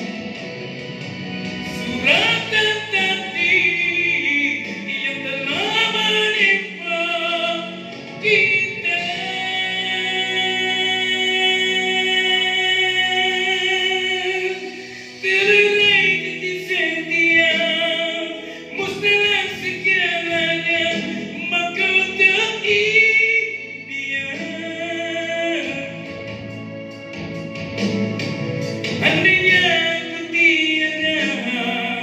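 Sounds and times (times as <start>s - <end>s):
instrumental backing music: 0.0s - 32.0s
man singing into a microphone: 1.6s - 26.6s, 28.9s - 32.0s.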